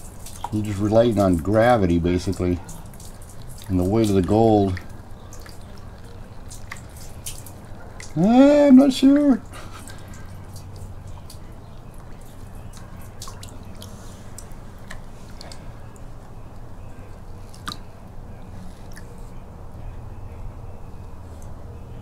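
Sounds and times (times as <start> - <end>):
water dripping into a tub: 0.0 - 19.8.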